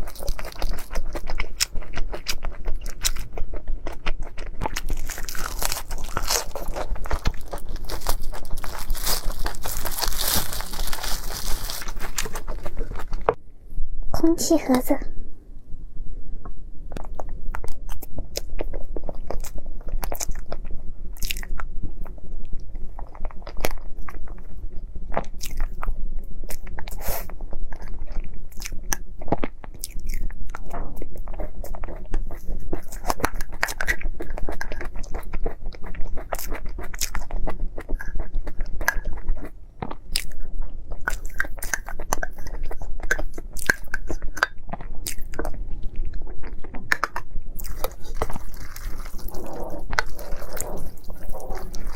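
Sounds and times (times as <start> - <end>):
crunchy chewing of fried pastry: 0.0 - 13.4, 16.9 - 51.9.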